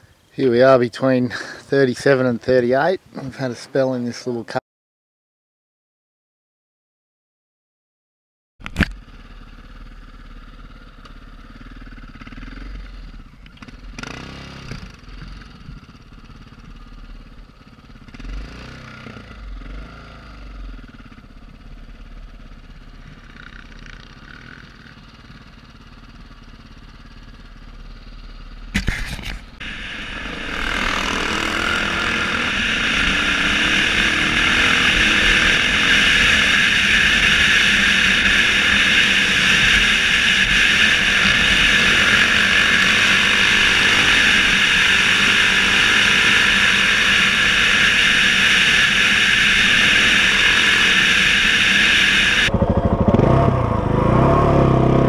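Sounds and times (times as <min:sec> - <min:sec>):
dirt bike engine running: 0:08.9 - 0:55.0.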